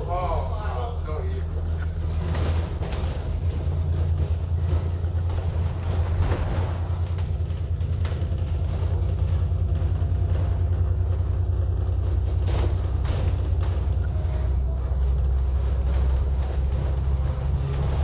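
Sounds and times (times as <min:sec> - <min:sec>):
bus engine and road rumble: 0:00.0 - 0:18.0
bodywork knocks and rattles: 0:01.4 - 0:18.0.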